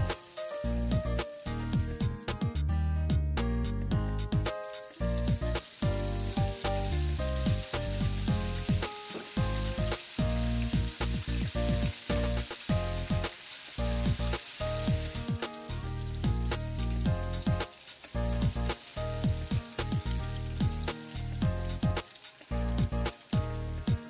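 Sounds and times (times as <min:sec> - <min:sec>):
chicken sizzling in hot oil: 0:00.0 - 0:02.2, 0:04.0 - 0:24.0
background music: 0:00.0 - 0:24.0.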